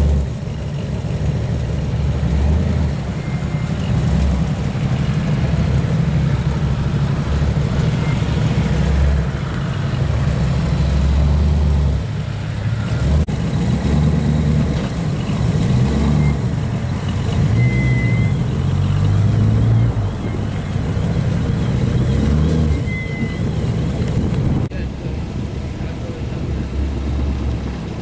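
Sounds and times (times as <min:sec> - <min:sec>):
car engines rumbling: 0:00.0 - 0:28.0.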